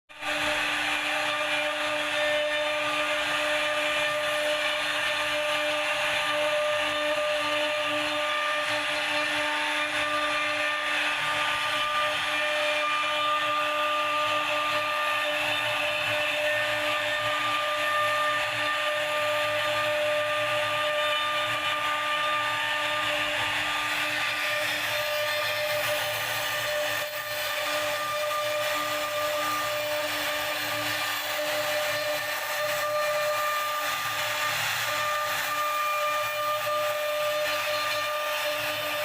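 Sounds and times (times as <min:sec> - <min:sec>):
router spindle whining: 0:00.1 - 0:39.0
wood cutting noise: 0:00.1 - 0:39.0.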